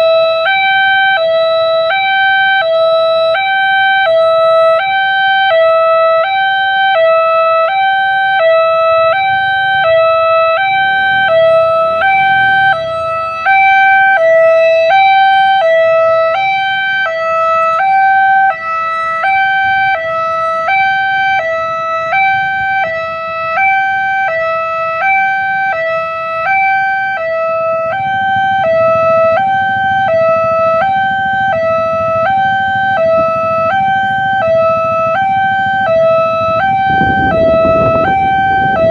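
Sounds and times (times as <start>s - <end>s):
two-tone warning siren: 0.0s - 38.9s.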